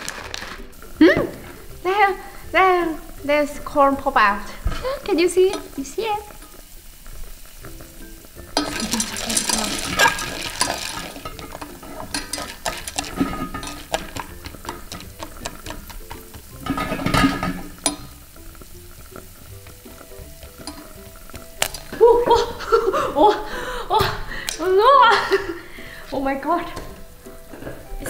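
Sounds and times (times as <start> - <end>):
butter sizzling: 0.0 - 28.0
popcorn kernels clicking on metal pot: 0.0 - 28.0.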